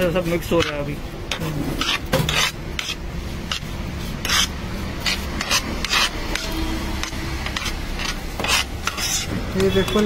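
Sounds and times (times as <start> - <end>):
spoon scraping a plate: 0.5 - 10.0.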